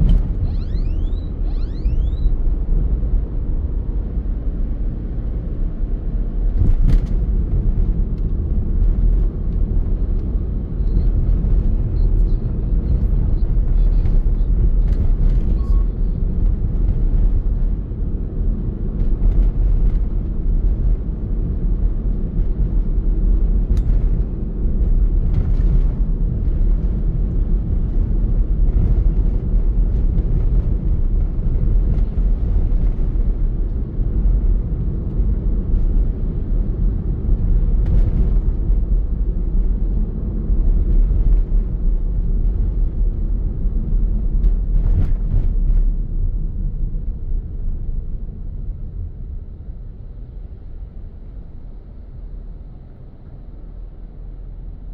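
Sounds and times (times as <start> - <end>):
car tyres and engine rumble: 0.0 - 54.9.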